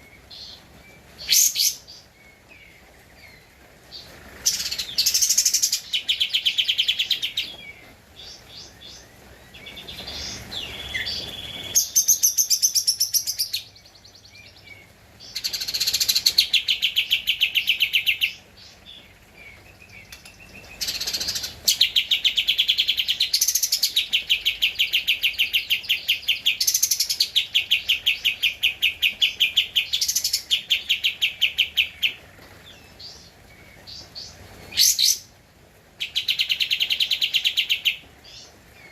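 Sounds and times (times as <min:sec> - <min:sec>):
songbird chattering trills: 0:00.0 - 0:35.3.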